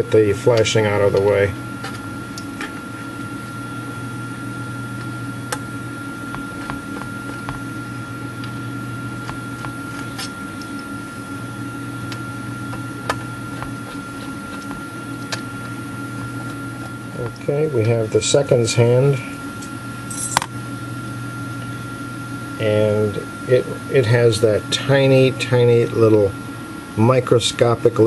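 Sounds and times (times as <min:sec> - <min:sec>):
thin high whine: 0:00.0 - 0:26.4
low background hum: 0:00.0 - 0:28.0.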